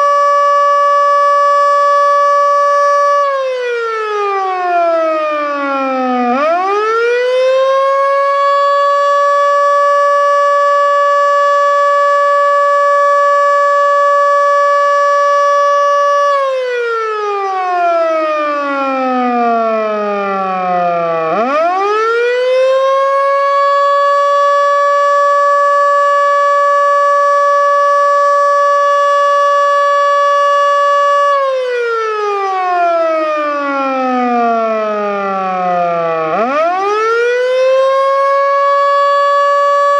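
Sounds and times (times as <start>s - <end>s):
outdoor warning siren wailing: 0.0s - 39.9s.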